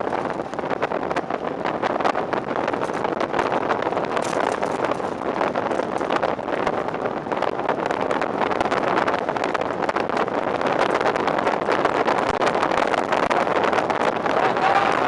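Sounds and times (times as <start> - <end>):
vehicle road and engine noise: 0.0 - 15.0
wind buffeting microphone: 0.0 - 15.0.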